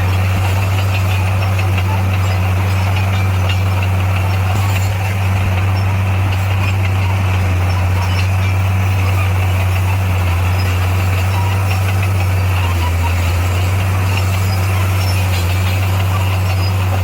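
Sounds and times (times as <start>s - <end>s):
diesel engine low drone: 0.0s - 17.0s.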